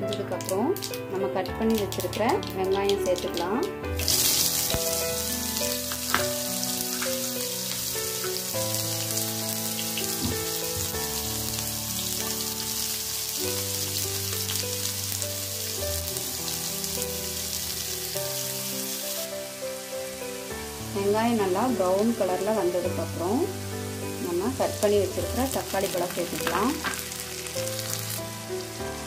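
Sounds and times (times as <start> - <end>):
soft keyboard background music: 0.0 - 29.0
onions sizzling in ghee: 0.1 - 29.0.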